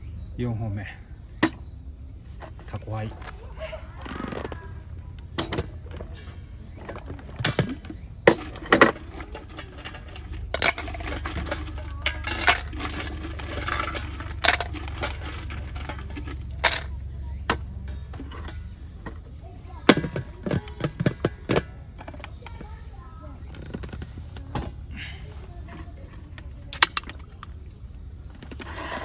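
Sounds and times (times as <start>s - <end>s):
steady low hum: 0.0s - 29.0s
objects clicking and knocking: 1.4s - 29.0s.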